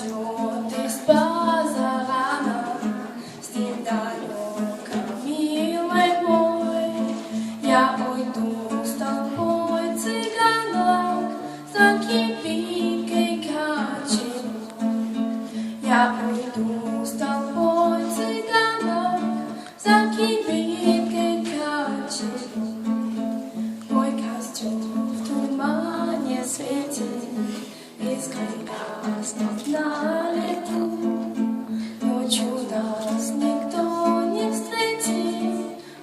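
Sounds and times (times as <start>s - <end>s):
woman singing with vibrato: 0.0s - 22.9s, 23.9s - 35.9s
plucked acoustic guitar: 0.0s - 36.0s.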